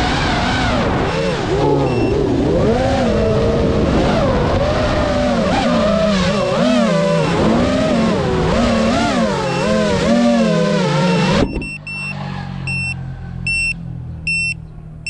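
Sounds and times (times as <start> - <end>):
quadcopter motors buzzing: 0.0 - 13.7.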